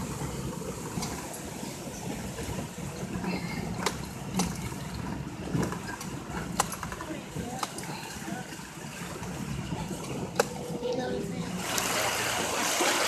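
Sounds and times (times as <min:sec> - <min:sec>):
vehicle engine running at low speed: 0:00.0 - 0:13.0.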